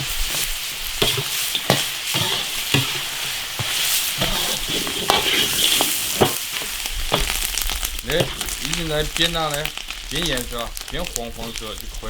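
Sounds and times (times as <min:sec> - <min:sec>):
meat sizzling in oil: 0:00.0 - 0:12.0
utensil scraping a wok: 0:00.0 - 0:12.0.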